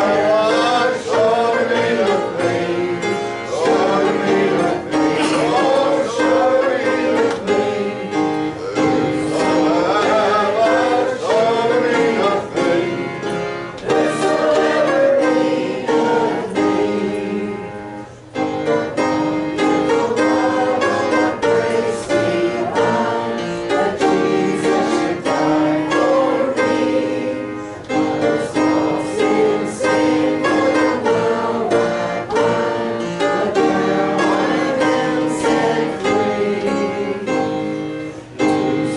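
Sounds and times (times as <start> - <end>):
congregation singing a hymn: 0.0 - 38.9
instrumental accompaniment: 0.0 - 38.9.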